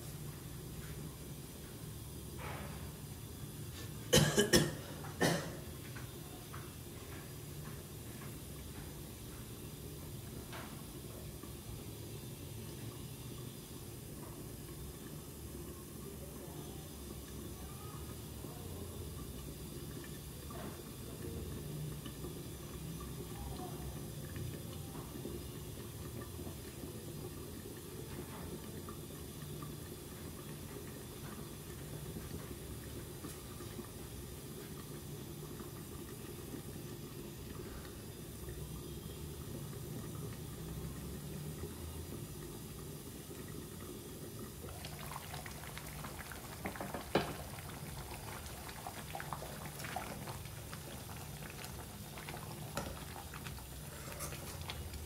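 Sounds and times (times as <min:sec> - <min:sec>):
curry bubbling in a pot: 0:00.0 - 0:55.0.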